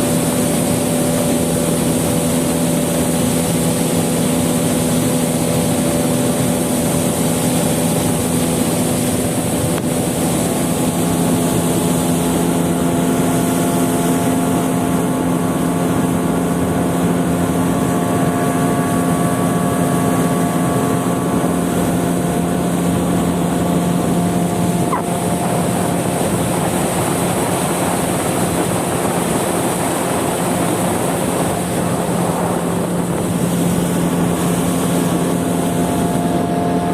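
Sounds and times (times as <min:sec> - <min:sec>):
outboard motor running: 0:00.0 - 0:36.9
water noise: 0:00.0 - 0:36.9
wind noise: 0:00.0 - 0:36.9.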